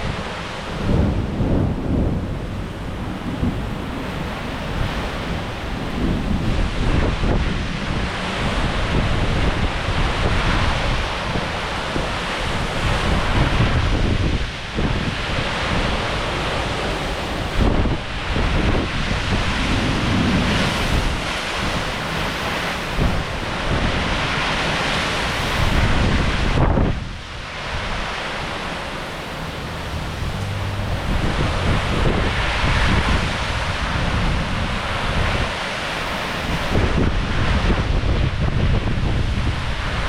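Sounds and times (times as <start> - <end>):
hurricane wind buffeting microphone: 0.0 - 40.0.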